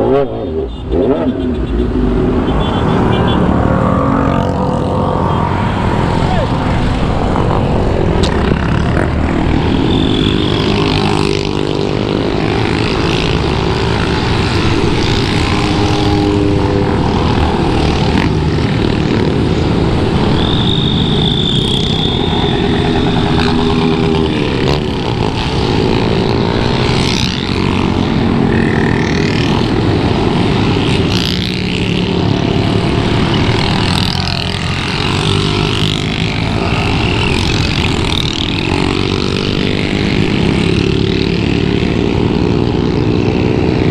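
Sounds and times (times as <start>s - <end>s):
motorcycle engine revving: 2.7s - 43.9s.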